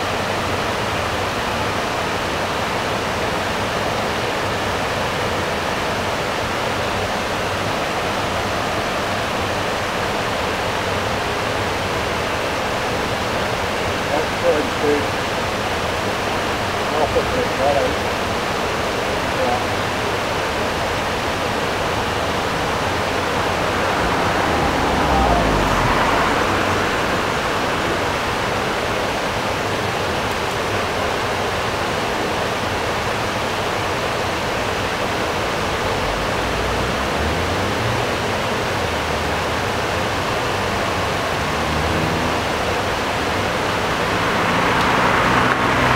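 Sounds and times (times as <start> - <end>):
water rushing over weir: 0.0 - 45.9.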